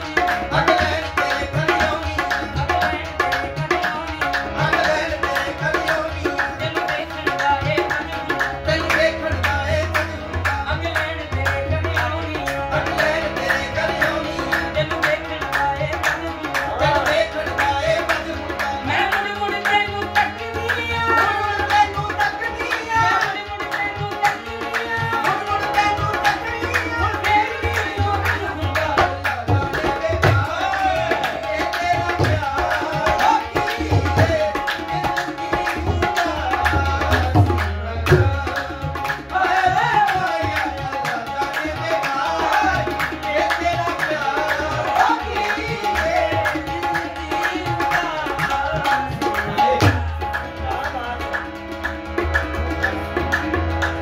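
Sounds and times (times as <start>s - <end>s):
hand drums fast rhythm: 0.0s - 54.0s
harmonium: 0.0s - 54.0s
men singing: 0.0s - 54.0s.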